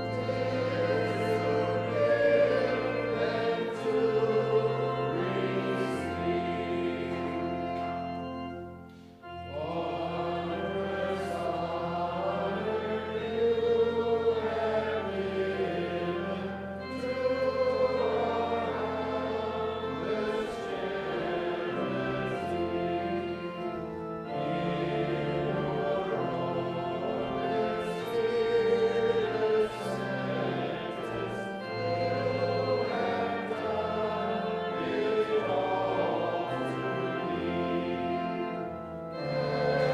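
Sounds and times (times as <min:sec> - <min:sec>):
choir singing a hymn: 0:00.0 - 0:39.9
held low accompanying notes: 0:00.0 - 0:39.9.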